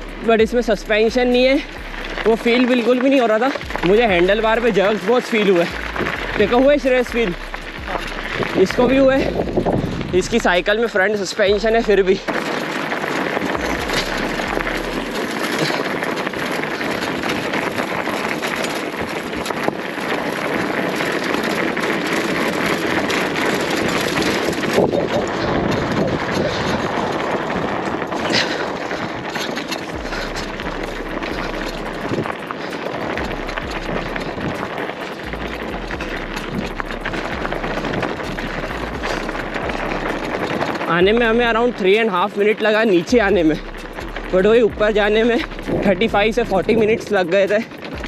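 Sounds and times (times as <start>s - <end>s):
bicycle tyres crunching gravel: 0.0s - 48.0s
wind on microphone: 5.7s - 10.9s, 13.2s - 41.8s, 43.1s - 48.0s.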